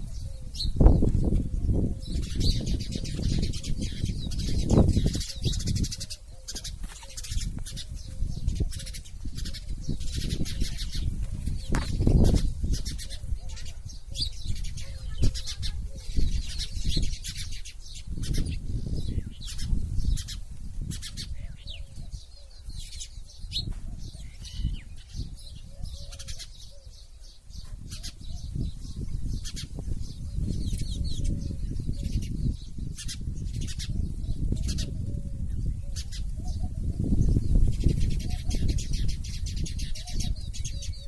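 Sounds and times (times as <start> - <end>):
sparrows chirping: 0.0 - 41.0.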